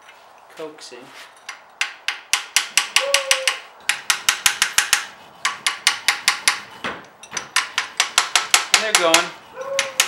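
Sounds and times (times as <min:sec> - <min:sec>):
small hammer tapping metal: 0:01.5 - 0:10.0.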